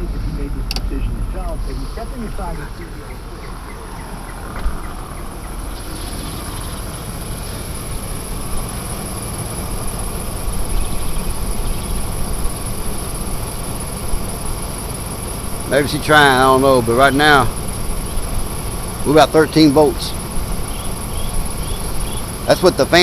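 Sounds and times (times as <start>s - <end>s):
car engine idling: 0.0s - 23.0s
electric cooling fans running: 0.0s - 23.0s
high-pitched insect drone: 0.0s - 23.0s.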